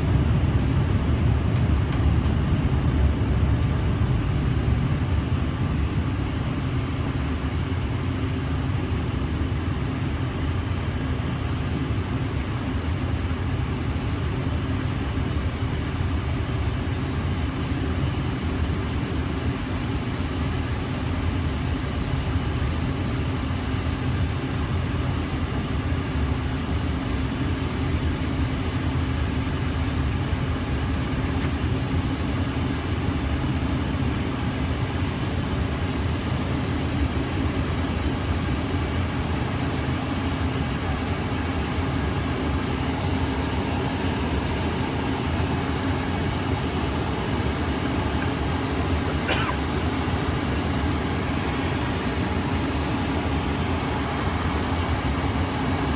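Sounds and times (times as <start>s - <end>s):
jet cabin engine and airflow noise: 0.0s - 55.9s.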